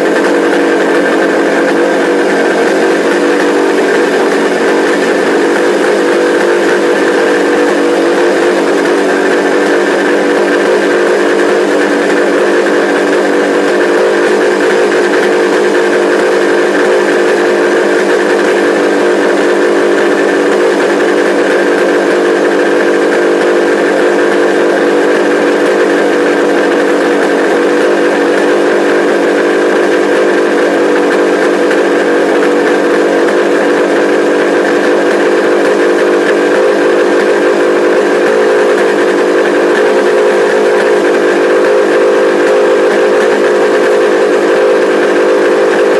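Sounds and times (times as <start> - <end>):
motorcycle engine whistling drone: 0.0 - 45.9.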